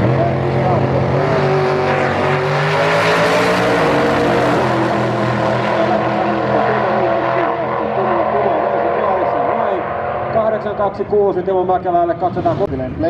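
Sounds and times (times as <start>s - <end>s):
racing car engines accelerating: 0.0s - 13.0s.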